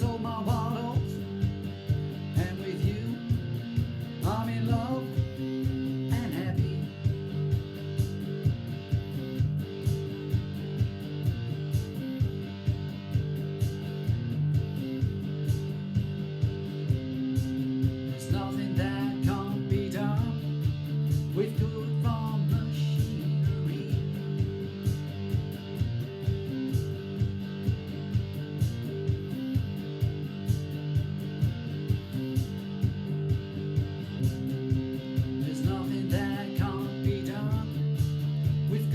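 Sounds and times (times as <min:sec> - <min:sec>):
guitar music with steady beat: 0:00.0 - 0:38.9.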